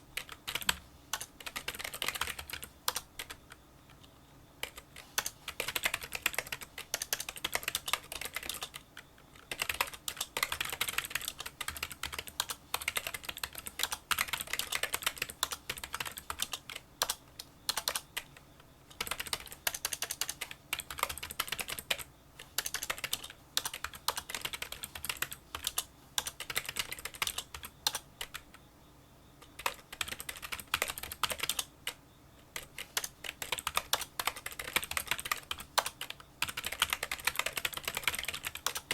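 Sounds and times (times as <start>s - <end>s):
fast typing on keyboard: 0.2s - 3.6s, 4.6s - 28.6s, 29.5s - 38.9s.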